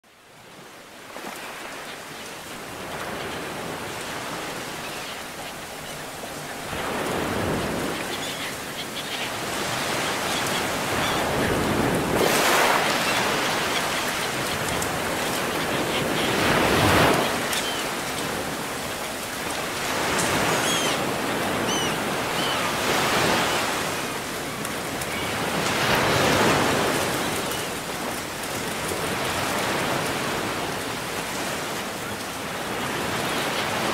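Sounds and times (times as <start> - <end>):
ocean surf breaking: 0.6 - 33.9.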